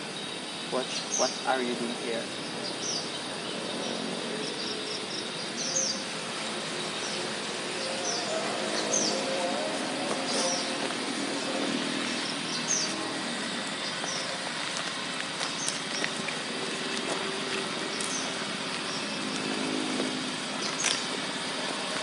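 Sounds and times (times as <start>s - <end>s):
distant motor traffic hum: 0.0s - 22.0s
steady hiss: 0.0s - 22.0s.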